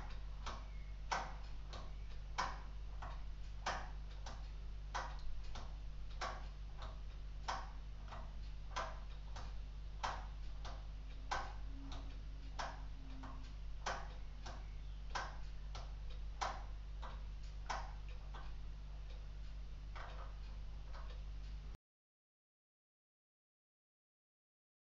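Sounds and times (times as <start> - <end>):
clock escapement ticking: 0.0 - 21.6.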